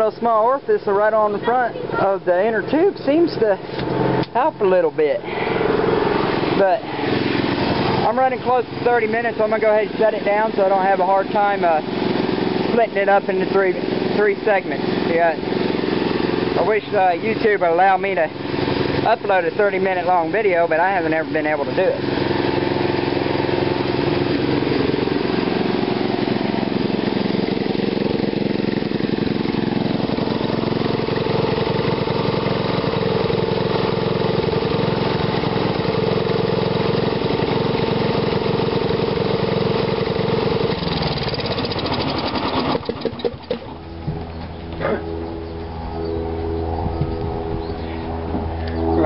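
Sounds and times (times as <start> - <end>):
small engine running: 0.0 - 49.0.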